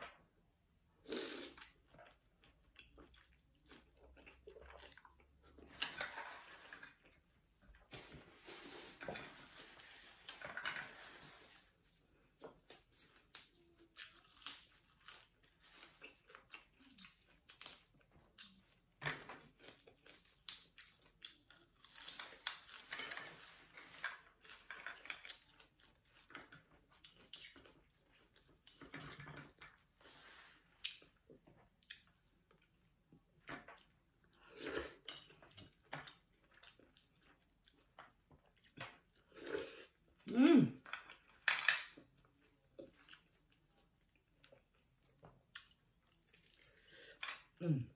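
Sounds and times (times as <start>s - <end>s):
chewing and crunching food: 1.0s - 47.6s.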